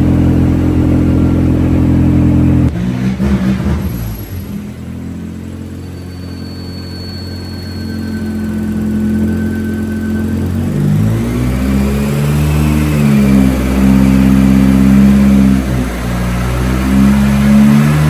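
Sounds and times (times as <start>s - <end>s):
truck engine revving: 0.0s - 5.4s, 6.1s - 18.0s.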